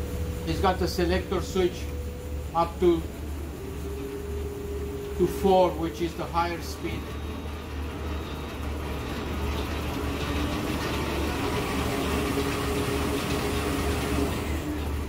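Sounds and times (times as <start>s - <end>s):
dough mixer motor hum: 0.0s - 15.0s
steady mixer tone: 0.0s - 15.0s.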